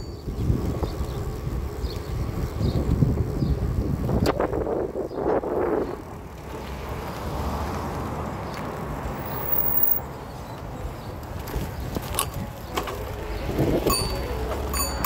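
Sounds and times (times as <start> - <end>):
wind rumbling on microphone: 0.0 - 9.8, 11.2 - 14.1
road noise: 0.0 - 15.0.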